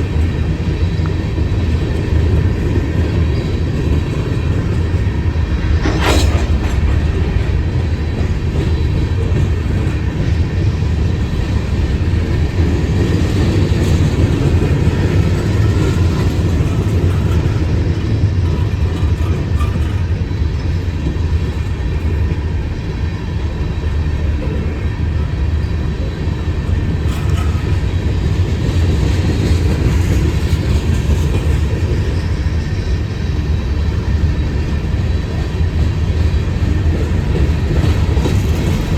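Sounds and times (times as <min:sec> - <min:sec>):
freight train wheels rumbling on rail: 0:00.0 - 0:38.9.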